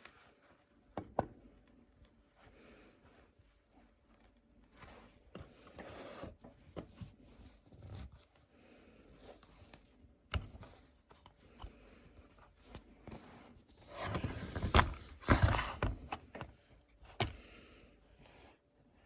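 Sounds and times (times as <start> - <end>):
rustling and scraping: 0.0 - 17.6.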